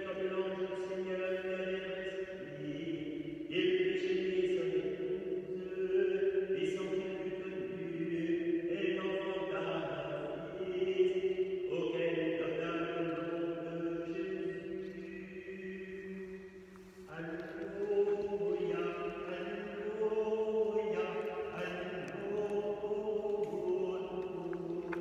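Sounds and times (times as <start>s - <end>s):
voices singing plainchant: 1.6s - 25.0s.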